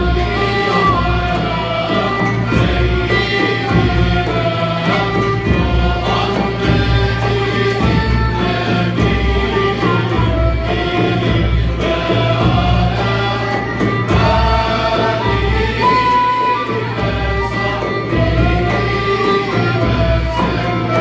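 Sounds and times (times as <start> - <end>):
frame drum beat: 0.0 - 21.0
male choir singing in unison: 0.0 - 21.0
ney flute: 0.0 - 21.0
oud: 0.0 - 21.0
violin: 0.0 - 21.0.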